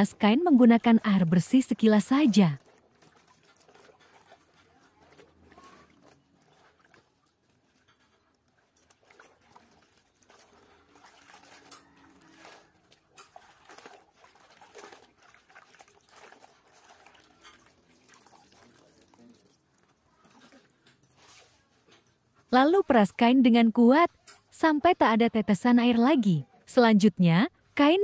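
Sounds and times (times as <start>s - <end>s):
water splashing and sloshing: 0.0s - 24.7s.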